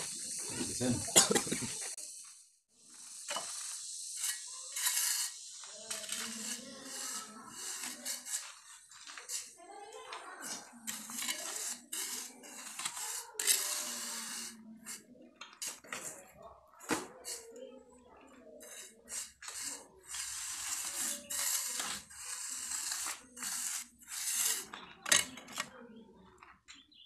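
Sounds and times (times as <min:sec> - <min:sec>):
trowel scraping sand: 0:00.0 - 0:02.2, 0:02.8 - 0:17.5, 0:18.4 - 0:25.7.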